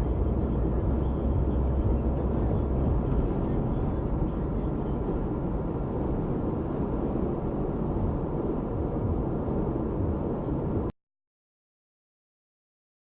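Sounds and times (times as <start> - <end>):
car interior road rumble: 0.0 - 10.9.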